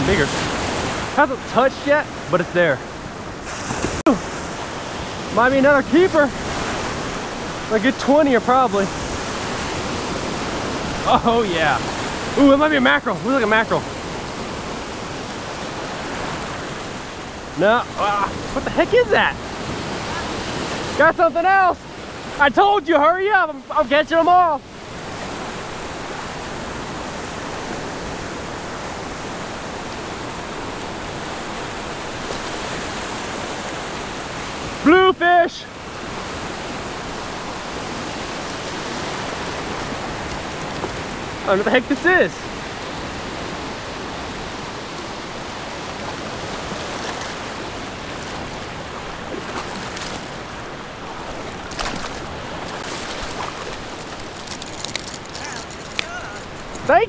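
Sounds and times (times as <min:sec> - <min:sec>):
foamy wash in shallows: 0:00.0 - 0:57.0
small surf waves breaking: 0:00.0 - 0:57.0.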